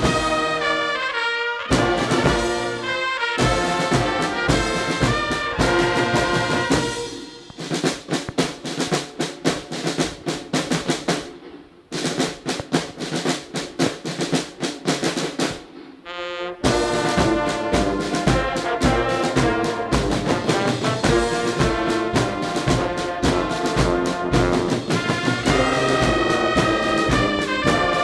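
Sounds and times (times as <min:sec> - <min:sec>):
brass band playing a march: 0:00.0 - 0:11.3, 0:12.0 - 0:28.0
snare drums playing: 0:00.0 - 0:28.0.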